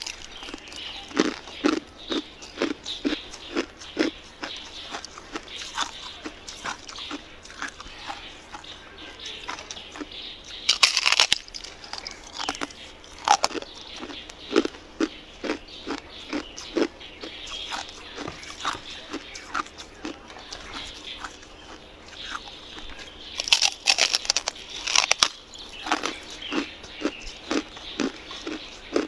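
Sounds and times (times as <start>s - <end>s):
ice crunching as chewed: 0.0s - 29.0s.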